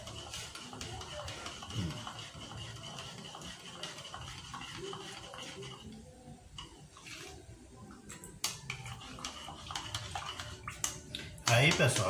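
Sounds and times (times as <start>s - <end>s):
plastic spoon stirring in cup: 0.0s - 12.0s.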